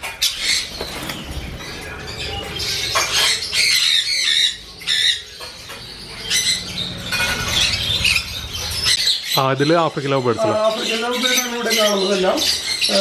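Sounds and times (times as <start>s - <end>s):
parrots squawking and chattering: 0.0s - 13.0s.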